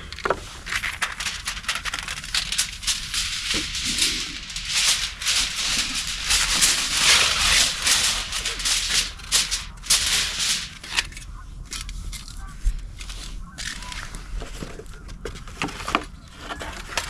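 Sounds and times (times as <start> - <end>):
gear rustling and rattling: 0.0 - 17.0.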